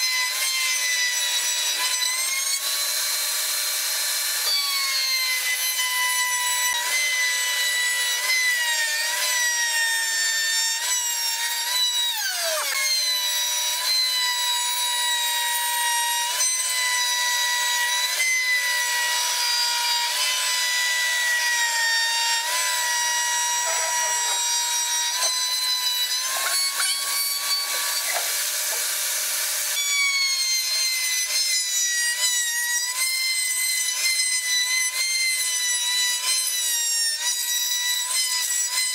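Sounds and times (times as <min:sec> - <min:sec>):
router whining while cutting wood: 0:00.0 - 0:38.9.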